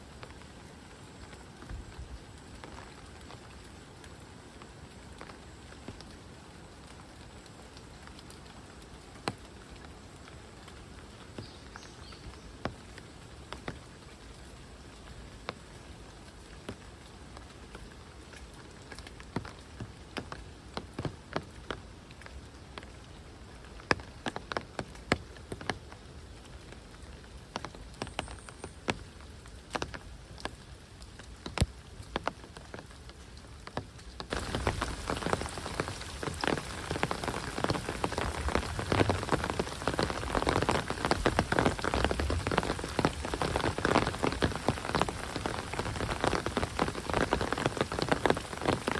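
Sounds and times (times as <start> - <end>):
dense downpour patter: 0.0 - 48.9
heavy raindrops striking: 0.0 - 48.9.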